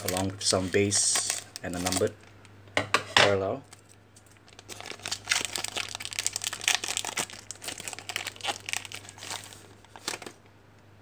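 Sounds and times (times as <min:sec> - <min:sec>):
foil wrapper crinkling and tearing: 0:00.0 - 0:02.2, 0:03.7 - 0:10.4.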